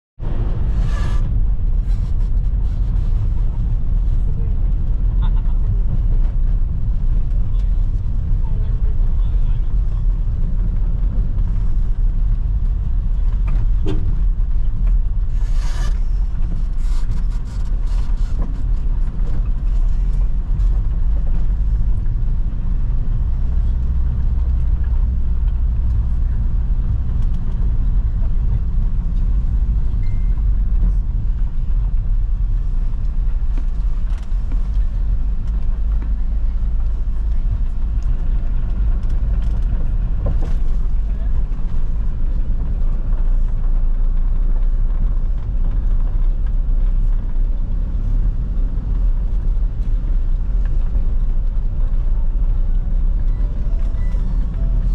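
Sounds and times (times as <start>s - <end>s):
vehicle engine and road noise: 0.2s - 54.9s.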